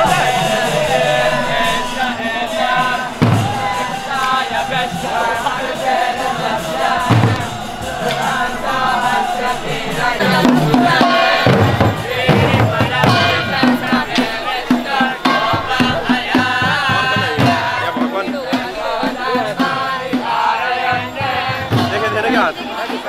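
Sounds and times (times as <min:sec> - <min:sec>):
steady drum beat: 0:00.0 - 0:23.0
voices singing devotional chant: 0:00.0 - 0:23.0.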